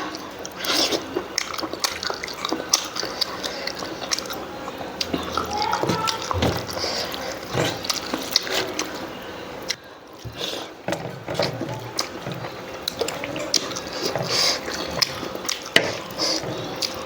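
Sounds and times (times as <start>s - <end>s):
wet chewing and mouth smacking: 0.1s - 9.0s, 11.3s - 17.0s.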